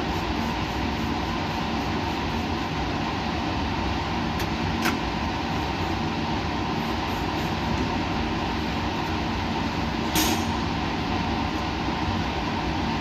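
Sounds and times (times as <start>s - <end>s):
mechanical rumble and hiss: 0.0s - 13.0s.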